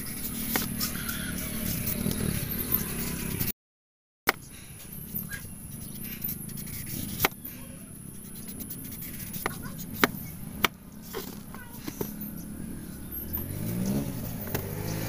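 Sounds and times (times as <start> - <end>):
knife cutting and scraping fruit: 0.0 - 3.5, 4.3 - 15.0.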